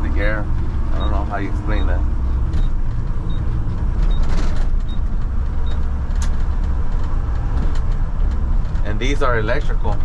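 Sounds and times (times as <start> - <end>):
diesel truck engine rumble: 0.0 - 10.0.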